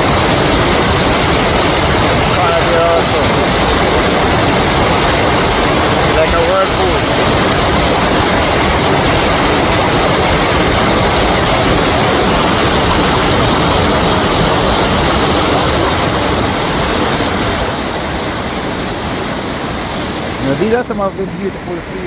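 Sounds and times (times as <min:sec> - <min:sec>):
spring water rushing: 0:00.0 - 0:22.0.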